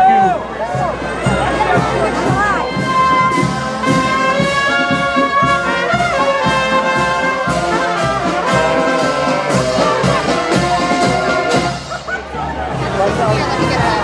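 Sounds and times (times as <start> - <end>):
steady drum beat: 0.0 - 12.1
brass band playing: 0.0 - 14.0.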